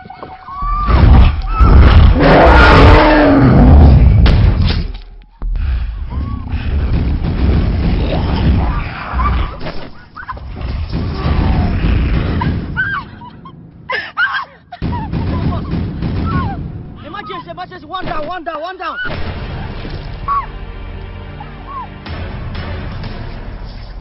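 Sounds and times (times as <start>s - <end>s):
action film music: 0.0s - 24.0s.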